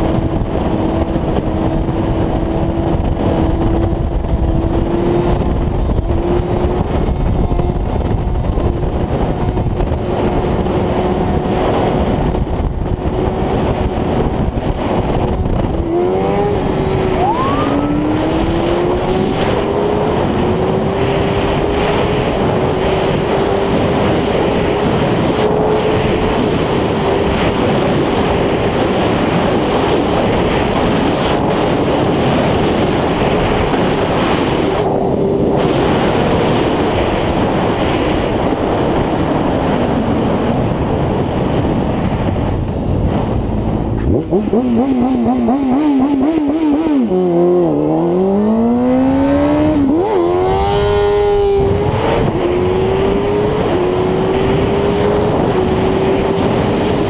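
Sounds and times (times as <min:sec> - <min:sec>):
motorcycle engine accelerating: 0:00.0 - 0:57.0
wind roar on microphone: 0:00.0 - 0:57.0.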